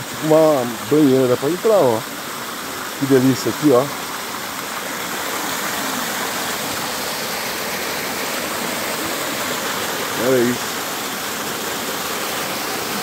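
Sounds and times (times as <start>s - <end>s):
waterfall splashing into pool: 0.0s - 13.0s.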